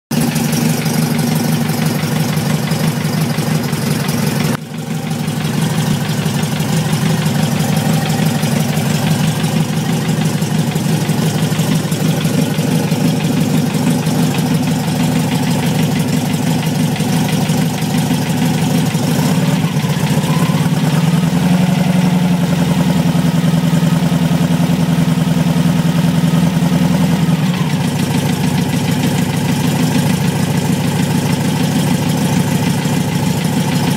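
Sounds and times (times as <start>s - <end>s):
car engine idling with a knock: 0.1s - 21.5s, 26.9s - 33.9s.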